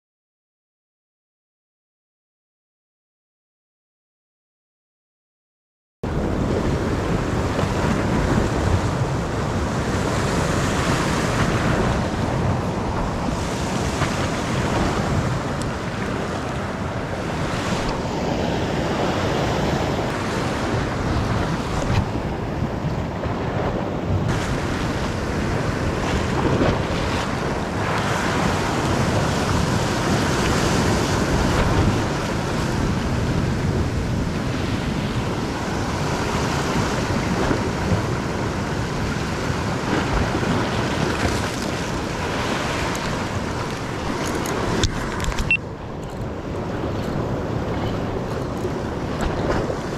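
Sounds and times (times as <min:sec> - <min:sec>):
ocean surf washing over rock: 0:06.1 - 0:49.9
wind buffeting microphone: 0:06.1 - 0:49.9.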